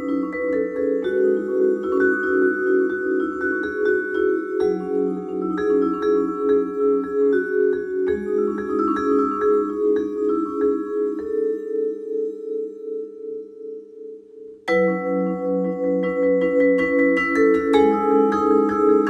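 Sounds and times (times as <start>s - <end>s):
vibraphone chords and notes: 0.0s - 19.0s.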